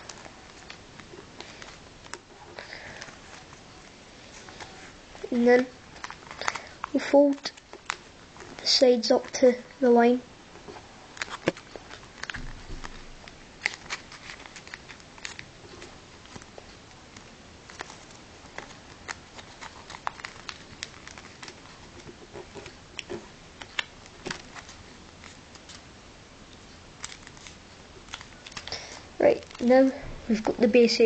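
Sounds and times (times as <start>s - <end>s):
paper being folded and creased: 0.0s - 9.6s, 10.6s - 25.9s, 27.0s - 30.7s.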